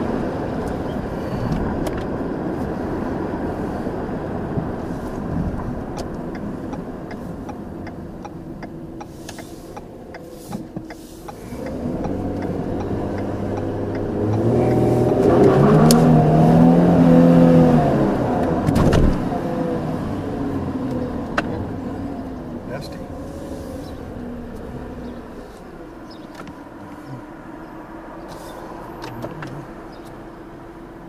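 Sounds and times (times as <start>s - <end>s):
car engine accelerating: 0.0s - 31.0s
road and wind noise: 0.0s - 31.0s.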